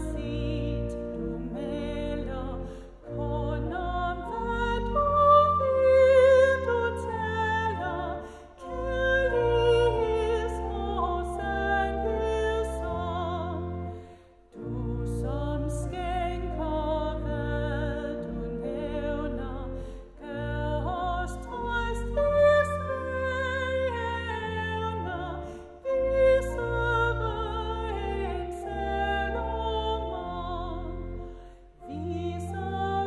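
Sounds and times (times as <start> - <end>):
church organ bass notes: 0.0 - 33.0
woman singing a hymn: 0.0 - 33.0.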